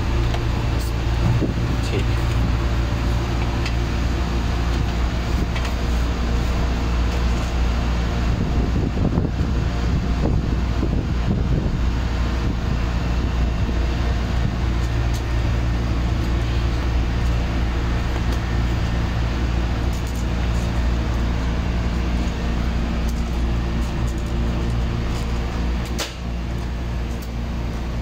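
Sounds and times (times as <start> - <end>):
air conditioning machinery hum: 0.0 - 28.0.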